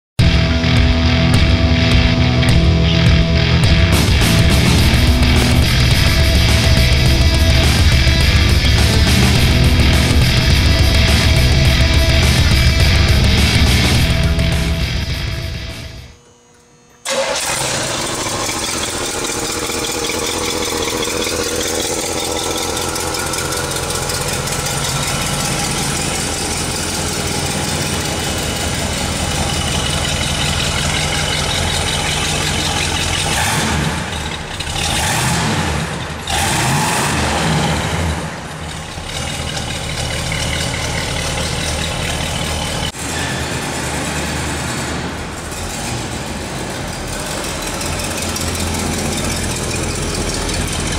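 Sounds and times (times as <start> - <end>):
car engine idling and revving: 0.2 - 50.9.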